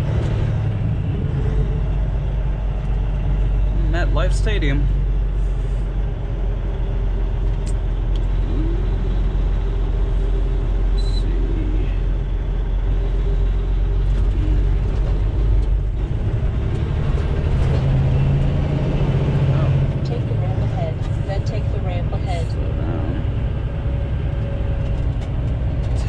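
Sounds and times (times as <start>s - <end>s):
diesel engine drone: 0.0s - 26.0s
tyre and road noise: 0.0s - 26.0s.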